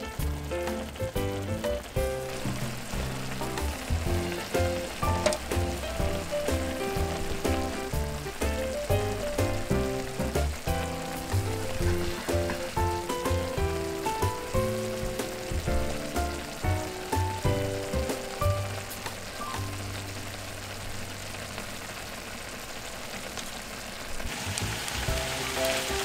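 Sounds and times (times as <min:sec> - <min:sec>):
background music: 0:00.0 - 0:20.5, 0:24.7 - 0:26.0
broth bubbling in a frying pan: 0:00.0 - 0:26.0.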